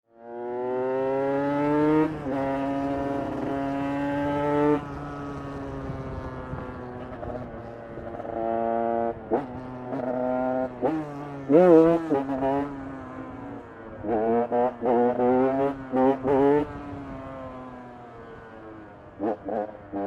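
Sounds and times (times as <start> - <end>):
motorcycle engine accelerating: 0.1 - 20.0.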